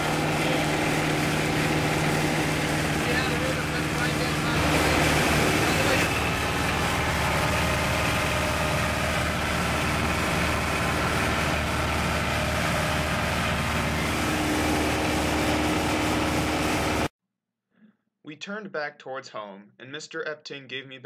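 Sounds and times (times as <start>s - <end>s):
airplane engine and propeller: 0.0s - 17.1s.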